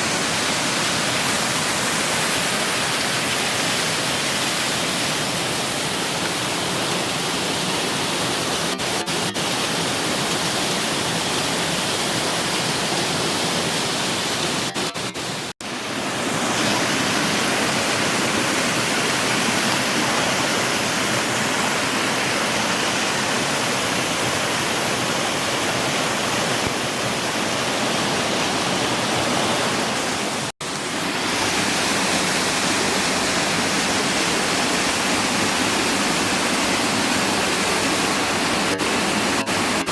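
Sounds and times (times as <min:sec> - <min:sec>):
waterfall rushing down rock: 0:00.0 - 0:39.9.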